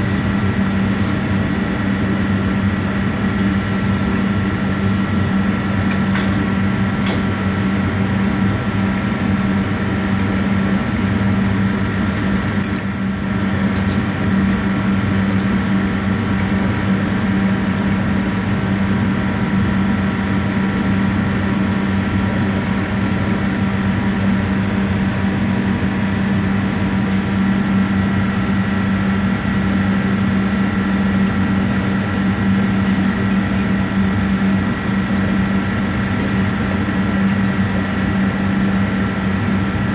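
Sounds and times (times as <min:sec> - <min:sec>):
kitchen machine hum: 0:00.0 - 0:39.9.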